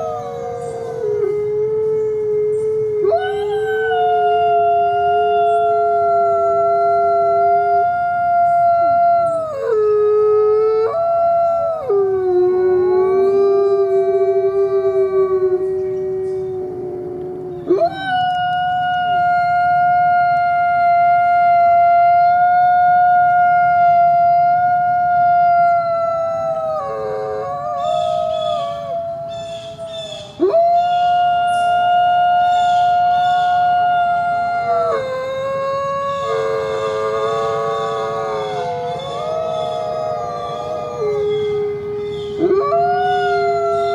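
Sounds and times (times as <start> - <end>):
coyotes howling: 0.0 - 43.9.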